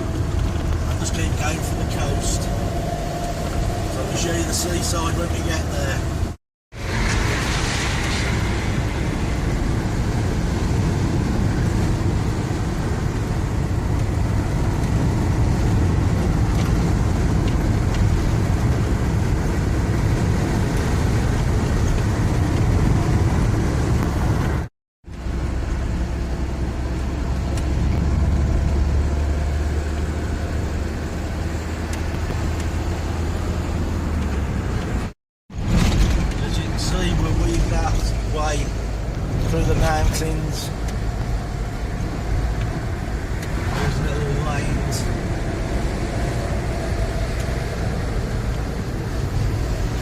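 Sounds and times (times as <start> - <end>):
van engine and road noise: 0.0 - 50.0.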